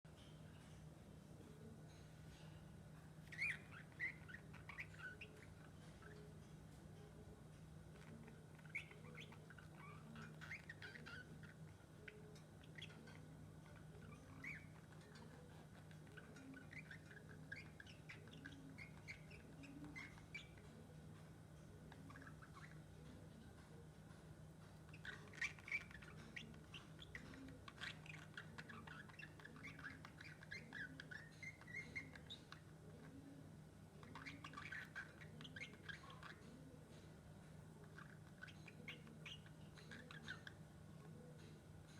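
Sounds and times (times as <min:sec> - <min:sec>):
faint low hum: 0:00.1 - 0:41.9
lovebird chirping: 0:01.4 - 0:41.9.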